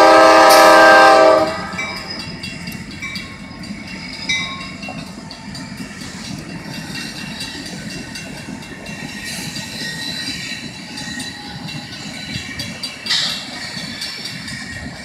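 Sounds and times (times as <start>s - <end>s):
train wheels rumbling on rail: 0.0s - 15.0s
wheels squealing: 1.4s - 15.0s.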